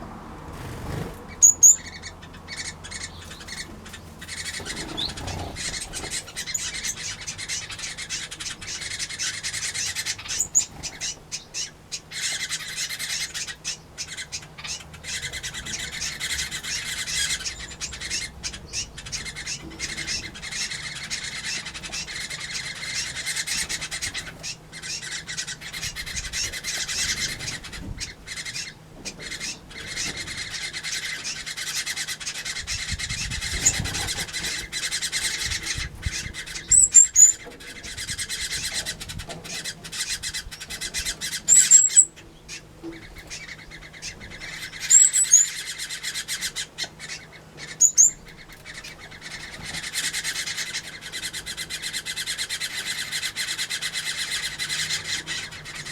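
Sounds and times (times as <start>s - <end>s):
small birds chattering and twittering: 0.0s - 55.9s
shrill bird calls: 1.3s - 55.9s.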